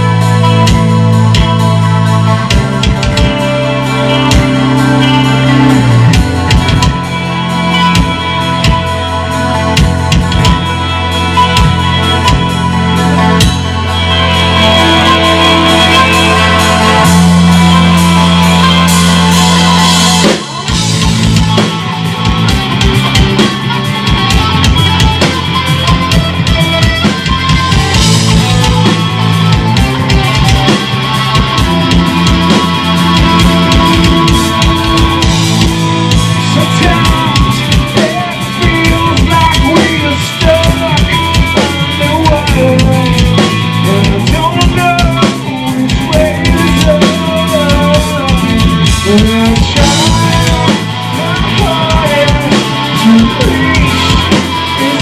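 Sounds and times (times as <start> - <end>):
live rock band playing: 0.0 - 55.0
steady drumming: 0.0 - 55.0.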